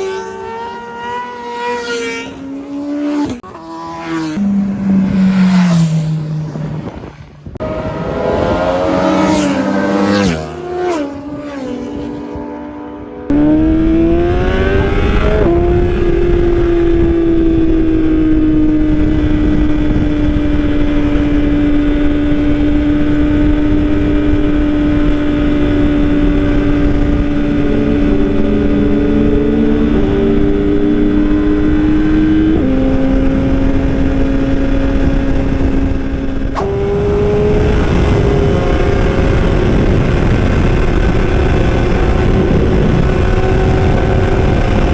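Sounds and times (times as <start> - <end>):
wind and road noise rumble: 0.0 - 44.9
motorbike engine running hard: 2.2 - 44.9.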